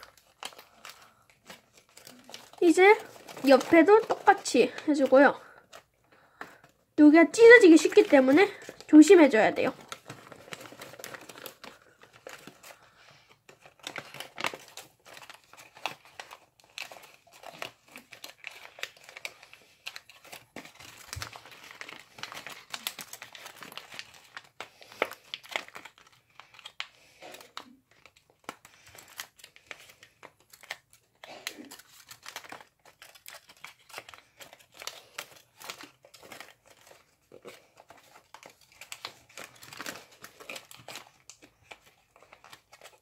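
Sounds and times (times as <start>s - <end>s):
paper crinkling: 0.0s - 43.0s.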